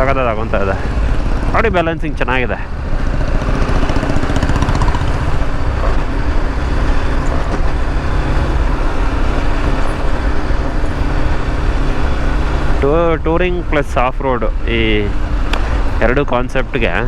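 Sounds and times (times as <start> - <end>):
motorcycle engine cruising: 0.0 - 17.0
road noise: 0.0 - 17.0.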